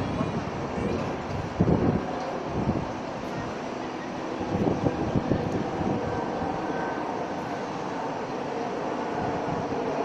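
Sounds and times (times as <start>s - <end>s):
ship engine rumbling: 0.0s - 10.0s
wind buffeting microphone: 0.0s - 10.0s.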